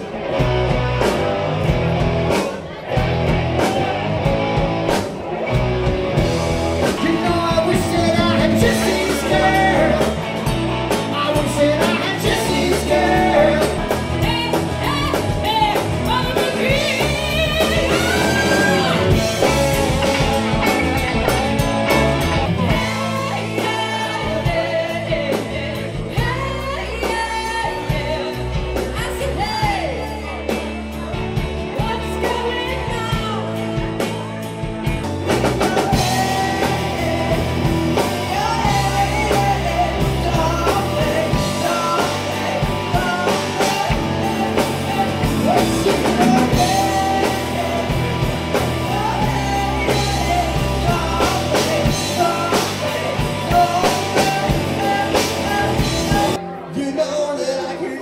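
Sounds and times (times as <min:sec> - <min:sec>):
drums: 0:00.0 - 0:58.0
electric guitars: 0:00.0 - 0:58.0
person singing lead vocal: 0:06.8 - 0:34.4, 0:35.3 - 0:58.0.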